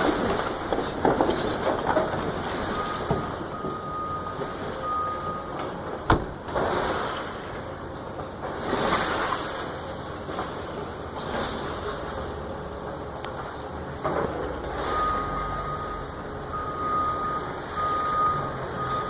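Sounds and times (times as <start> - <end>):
heavy machinery crunching debris: 0.0 - 19.0.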